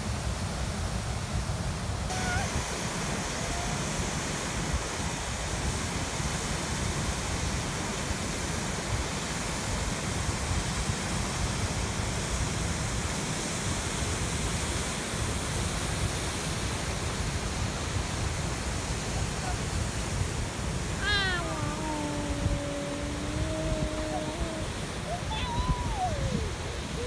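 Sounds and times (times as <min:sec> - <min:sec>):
water rushing from dam spillway: 0:00.0 - 0:27.0.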